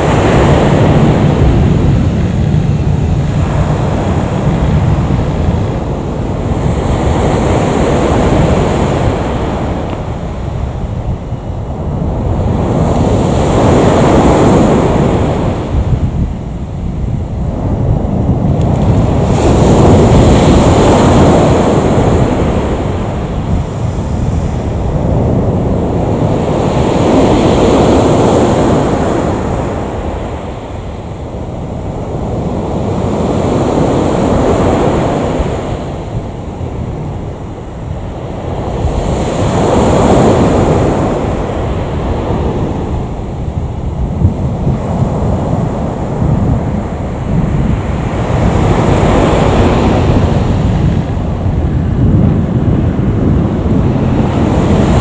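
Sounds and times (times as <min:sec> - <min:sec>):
rushing noise: 0:00.0 - 0:52.6
wind rumbling on microphone: 0:00.0 - 0:55.0.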